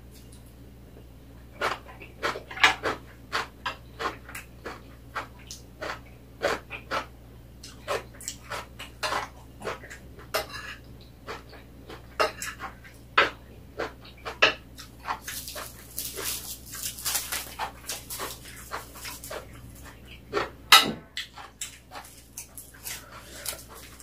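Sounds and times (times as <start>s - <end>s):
person chewing: 1.5s - 24.0s.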